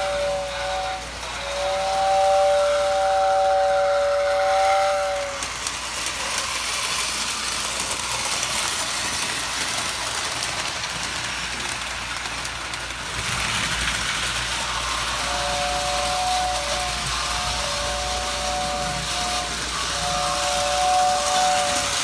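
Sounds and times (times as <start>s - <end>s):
toy train whistle: 0.0s - 11.0s, 14.3s - 22.0s
toy train running: 0.0s - 22.0s.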